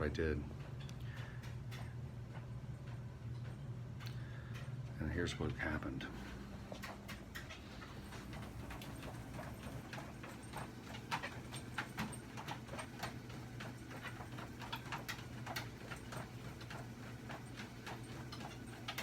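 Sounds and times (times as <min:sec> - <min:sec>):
dog paws clicking on treadmill: 0:00.0 - 0:19.0
treadmill motor hum: 0:00.0 - 0:19.0.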